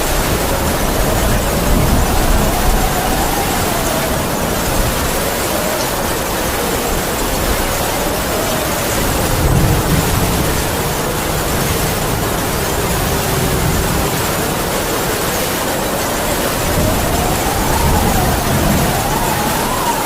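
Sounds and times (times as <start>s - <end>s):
heavy rain hissing: 0.0s - 20.0s
howling wind: 0.0s - 20.0s.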